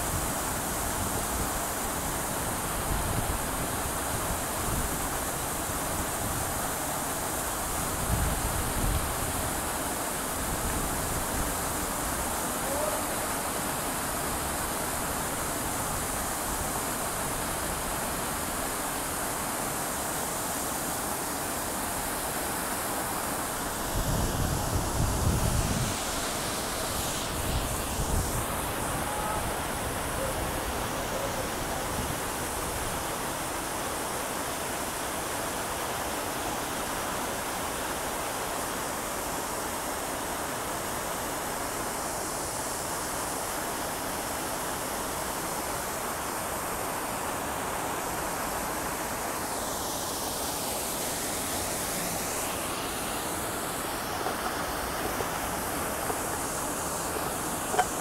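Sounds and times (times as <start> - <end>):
fountain water splashing: 0.0 - 58.0.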